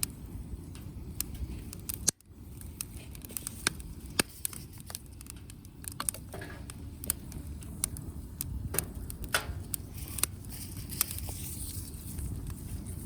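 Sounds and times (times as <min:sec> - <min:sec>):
firewood crackling and popping: 0:00.0 - 0:13.0
low steady rumble: 0:00.0 - 0:13.0.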